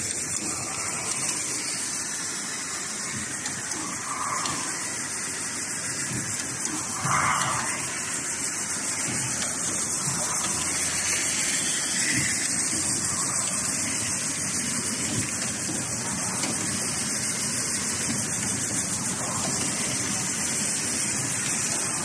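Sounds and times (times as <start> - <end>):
machine hissing: 0.0 - 22.0.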